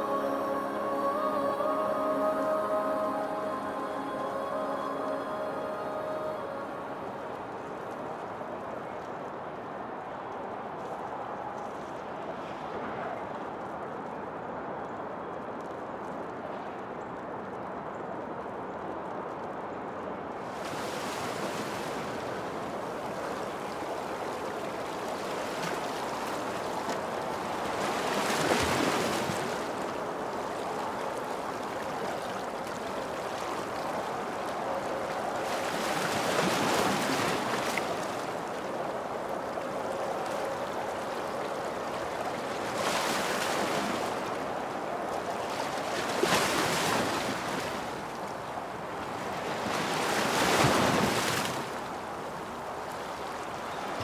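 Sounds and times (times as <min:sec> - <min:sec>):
waves washing in: 0:00.0 - 0:11.3, 0:20.2 - 0:54.0.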